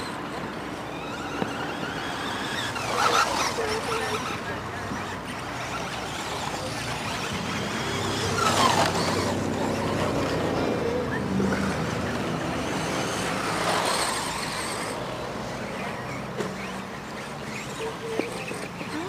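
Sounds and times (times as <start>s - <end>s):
toy car motors whining: 0.0s - 19.0s.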